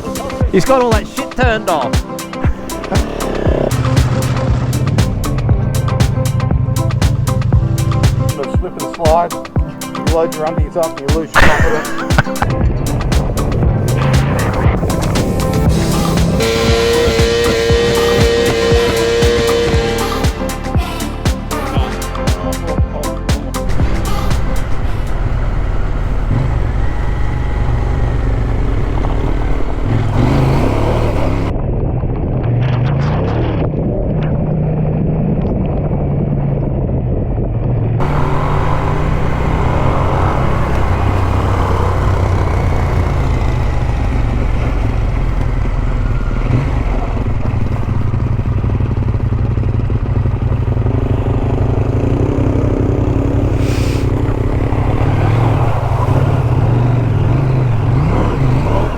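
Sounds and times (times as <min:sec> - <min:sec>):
motorcycle engine on dirt trail: 0:00.0 - 0:20.4, 0:23.6 - 0:58.9.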